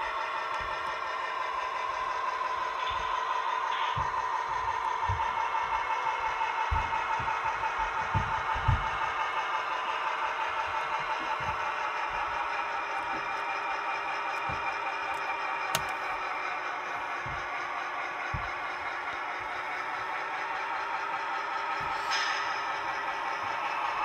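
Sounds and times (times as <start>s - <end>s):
model locomotive engine drone: 0.0s - 24.0s.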